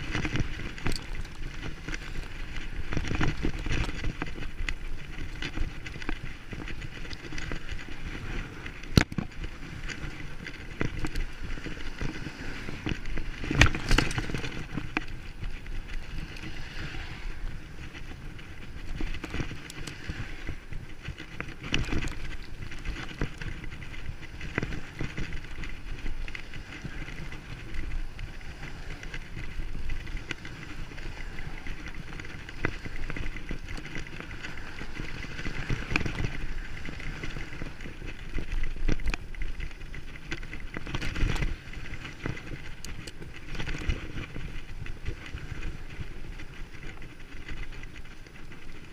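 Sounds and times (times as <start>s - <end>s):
bicycle rattles: 0.0s - 48.9s
bicycle rumbling over rough ground: 0.0s - 48.9s.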